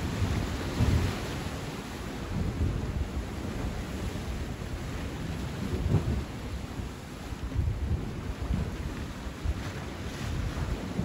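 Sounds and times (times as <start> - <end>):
sea waves washing on shore: 0.0 - 11.0
wind buffeting microphone: 0.0 - 11.0.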